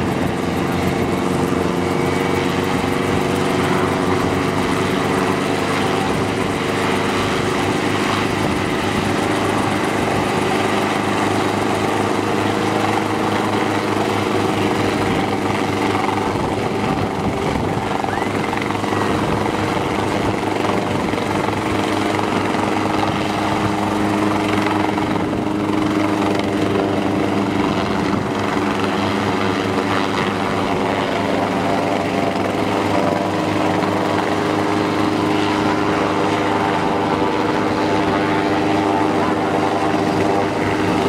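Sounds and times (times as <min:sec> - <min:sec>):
helicopter engine and rotor: 0:00.0 - 0:41.0.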